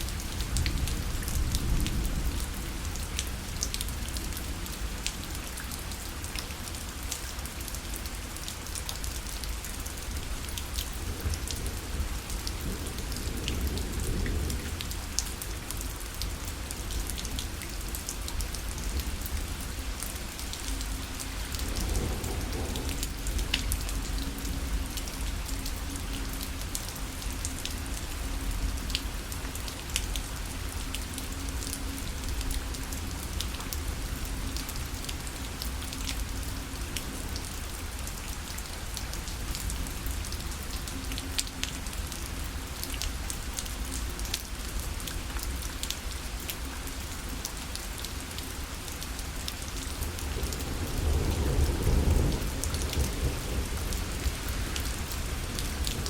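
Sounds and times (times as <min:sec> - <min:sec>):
rain on fabric parasol: 0:00.0 - 0:56.0.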